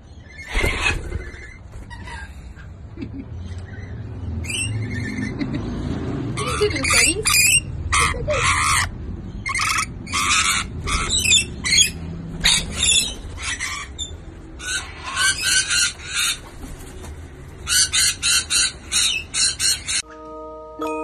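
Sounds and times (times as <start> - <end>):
parrots screeching: 0.2 - 2.7, 3.6 - 5.4, 6.4 - 16.6, 17.6 - 20.0.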